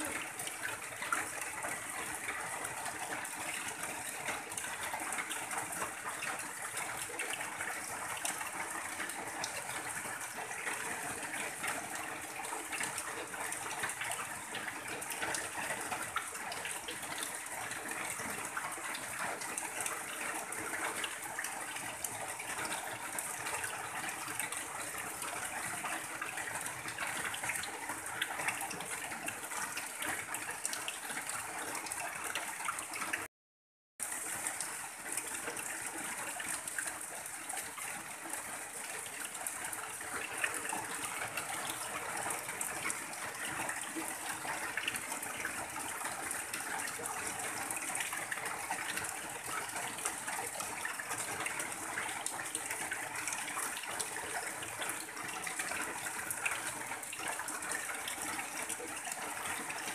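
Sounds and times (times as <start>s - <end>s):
heavy rain on a tin roof: 0.0s - 33.3s, 34.0s - 59.9s
runoff pouring off roof: 0.0s - 33.3s, 34.0s - 59.9s.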